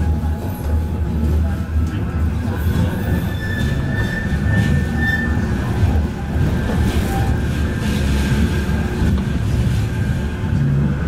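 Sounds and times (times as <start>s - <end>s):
tram low rumble: 0.0s - 11.0s.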